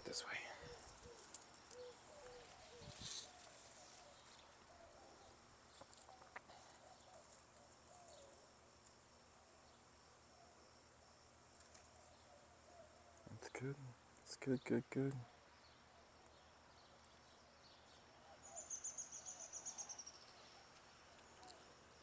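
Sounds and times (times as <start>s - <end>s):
insect hum: 0.0s - 22.0s.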